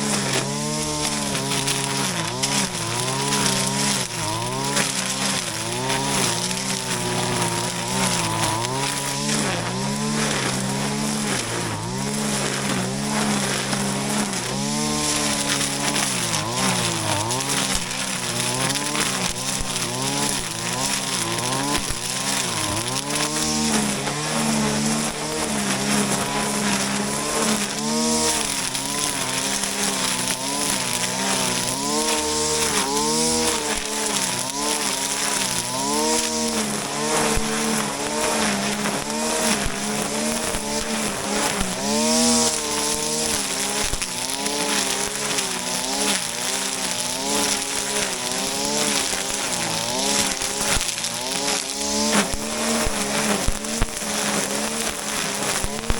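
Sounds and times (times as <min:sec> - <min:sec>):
brush cutter engine at high throttle: 0:00.0 - 0:55.9.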